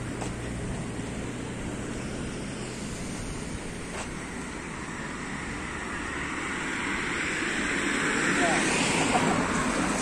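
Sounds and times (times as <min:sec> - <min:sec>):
outdoor rushing noise: 0:00.0 - 0:10.0.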